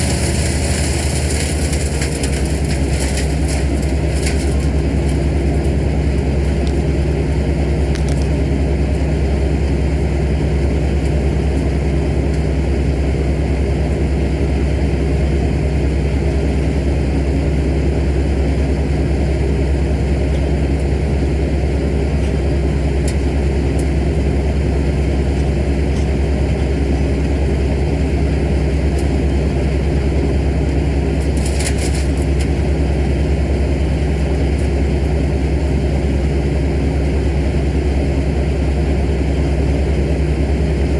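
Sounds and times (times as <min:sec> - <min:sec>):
large engine running: 0:00.0 - 0:40.9.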